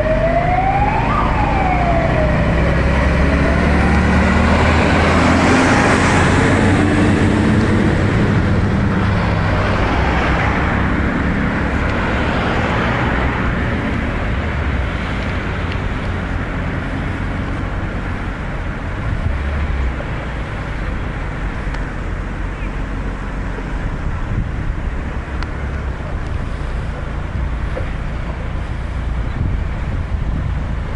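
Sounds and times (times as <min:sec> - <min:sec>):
truck passing: 0:00.0 - 0:30.9
vehicle engine and road noise: 0:00.0 - 0:30.9.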